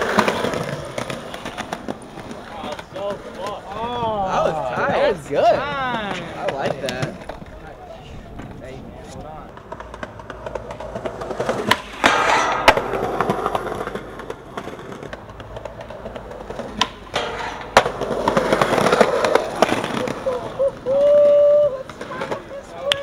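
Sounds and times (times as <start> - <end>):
skateboard clacking on ground: 0.0 - 23.0
skateboard wheels rolling on concrete: 0.0 - 23.0.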